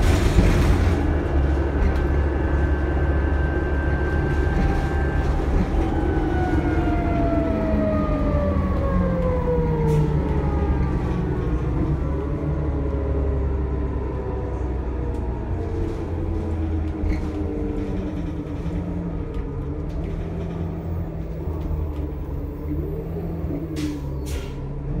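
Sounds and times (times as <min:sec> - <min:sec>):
bus engine low rumble: 0:00.0 - 0:25.0.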